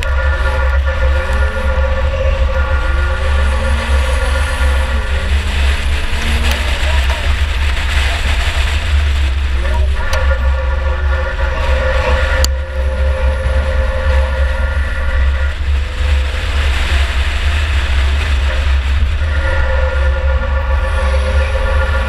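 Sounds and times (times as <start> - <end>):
race car engine rumble: 0.0 - 22.0
steady whine: 0.0 - 22.0.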